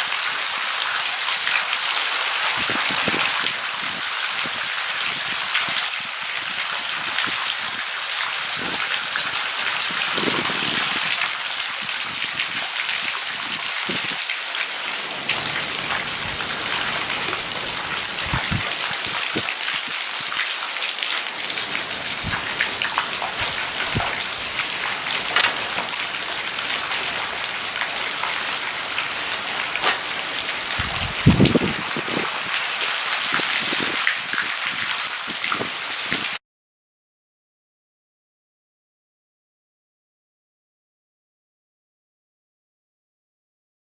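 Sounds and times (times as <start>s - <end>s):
heavy rain falling: 0.0s - 36.4s.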